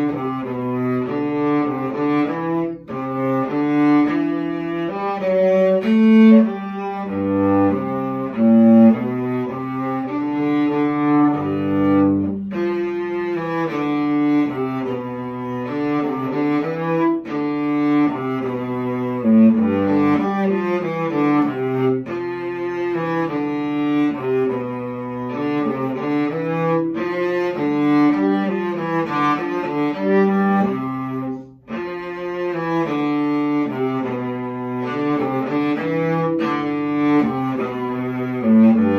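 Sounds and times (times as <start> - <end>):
bowed cello: 0.0 - 38.9.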